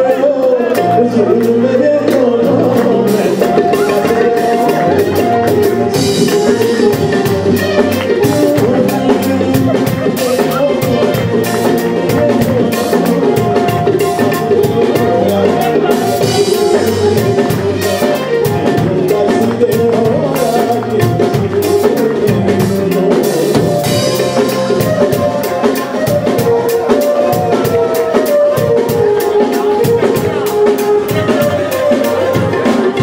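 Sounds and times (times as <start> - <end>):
electric bass guitar: 0.0 - 33.0
harmonium melody: 0.0 - 33.0
tabla rhythm: 0.6 - 33.0.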